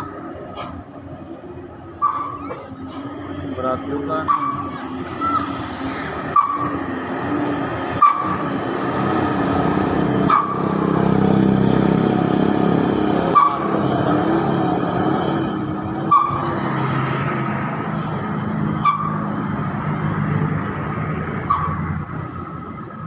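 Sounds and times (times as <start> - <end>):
truck diesel engine passing: 0.0 - 23.0.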